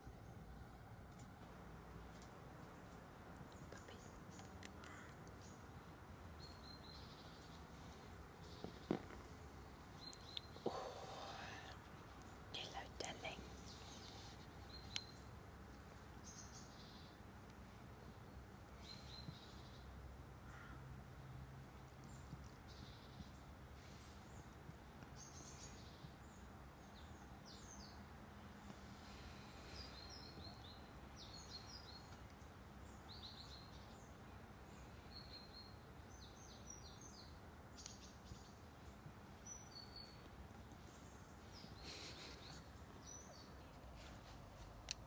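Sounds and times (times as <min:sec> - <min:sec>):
faint small birds chirping: 0:00.0 - 0:45.0.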